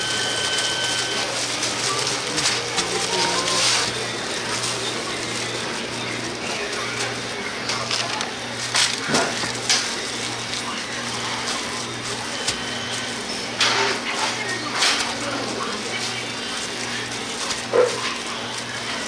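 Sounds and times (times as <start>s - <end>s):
faint voices: 0.0s - 19.0s.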